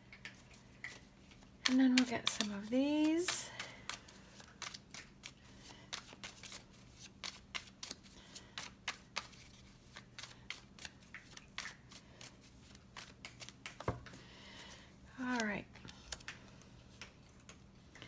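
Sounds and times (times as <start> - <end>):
cards shuffled by hand: 0.2 - 14.2, 15.2 - 17.7.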